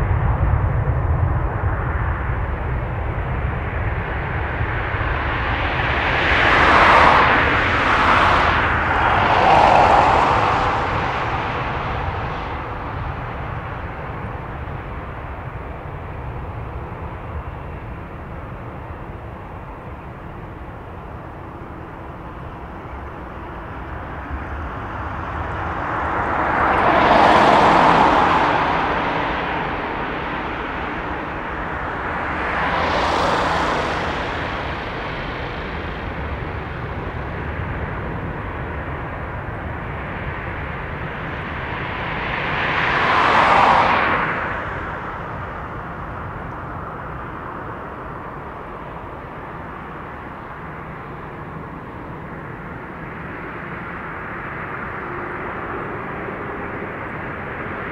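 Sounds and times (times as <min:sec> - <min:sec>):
jet engines whining: 0:02.4 - 0:57.9.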